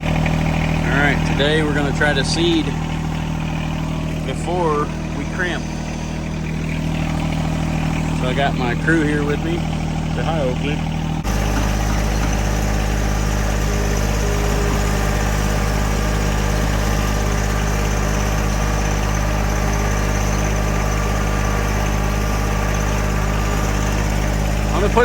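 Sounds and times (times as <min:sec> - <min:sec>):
vehicle engine running steadily: 0:00.0 - 0:25.0.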